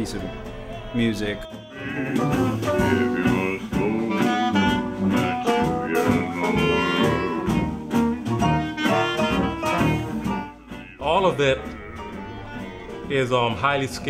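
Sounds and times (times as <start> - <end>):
swing jazz band playing: 0.0 - 14.0.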